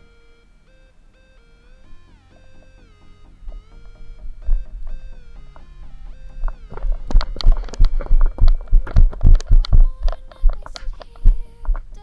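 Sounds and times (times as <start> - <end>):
sliding synth tones: 0.0 - 12.0
steady low bass: 1.1 - 12.0.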